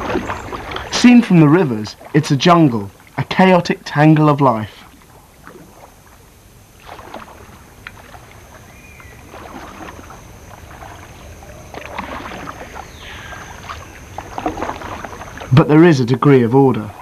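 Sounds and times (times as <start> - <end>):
water splashing around boat: 0.0 - 17.0.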